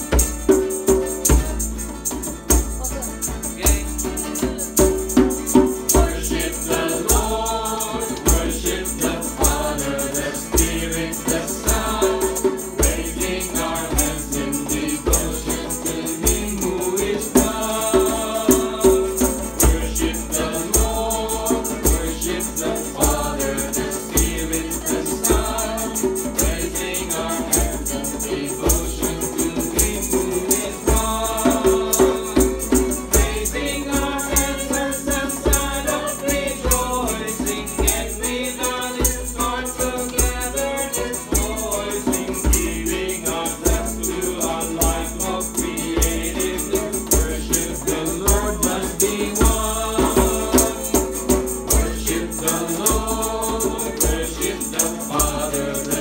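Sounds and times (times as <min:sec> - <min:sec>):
shaken rattle: 0:00.0 - 0:56.0
group singing a hymn: 0:03.4 - 0:56.0.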